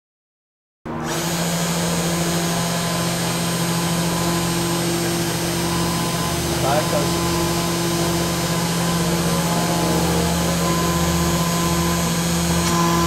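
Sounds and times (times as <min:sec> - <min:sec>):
spindle motor whirring hum: 0:00.9 - 0:13.0.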